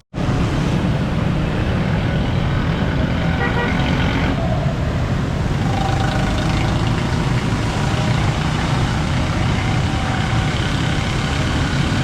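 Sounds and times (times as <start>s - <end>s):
road traffic rumble: 0.2s - 12.0s.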